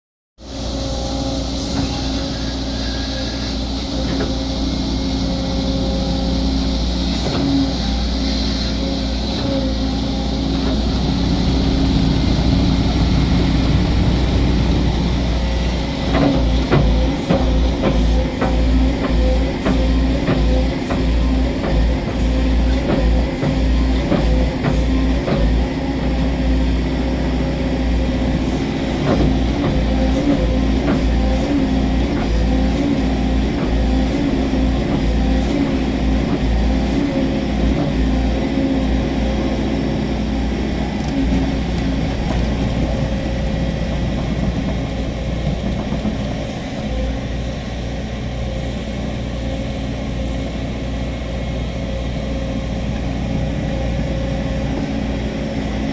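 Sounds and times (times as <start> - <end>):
excavator diesel engine running: 0.4 - 55.9.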